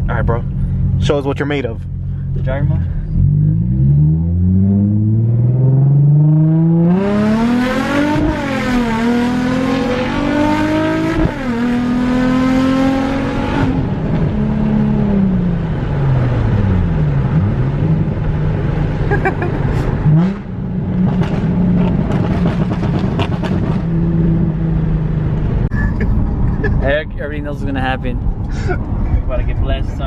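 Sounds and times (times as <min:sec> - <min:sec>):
car engine accelerating: 0:00.1 - 0:30.0.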